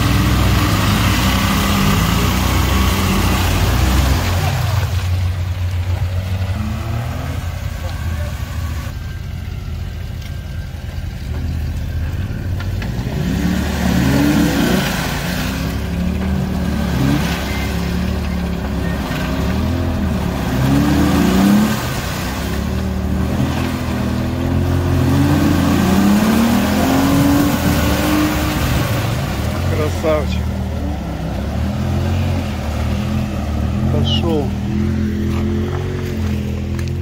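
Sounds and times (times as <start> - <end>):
vehicle engine revving: 0.0 - 9.1, 11.2 - 37.0.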